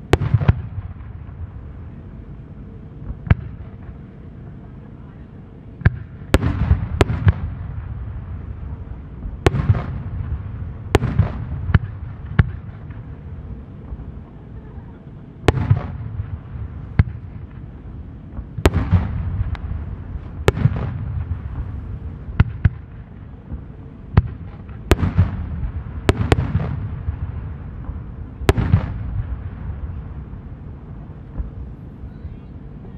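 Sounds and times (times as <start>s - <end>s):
rolling echo rumble: 0.0s - 32.9s.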